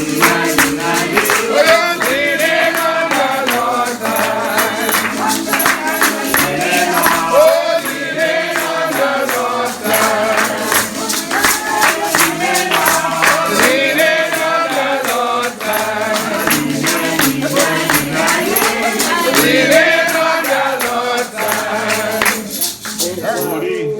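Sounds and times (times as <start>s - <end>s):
tambourine beat: 0.0s - 23.7s
congregation singing a hymn: 0.0s - 23.9s.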